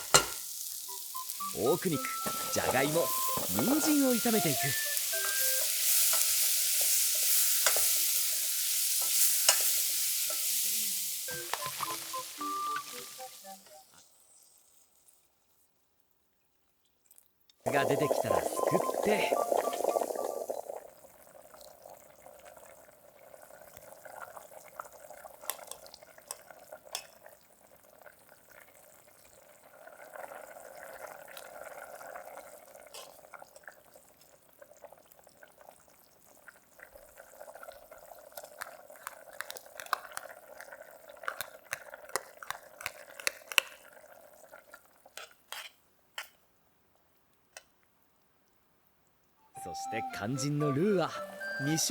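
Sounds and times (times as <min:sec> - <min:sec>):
pot simmering with soft bubbling: 0:00.0 - 0:49.2.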